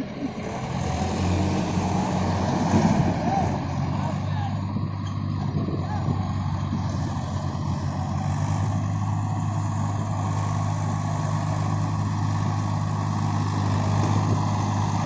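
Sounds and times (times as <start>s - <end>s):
tractor diesel engine humming: 0.0s - 15.0s.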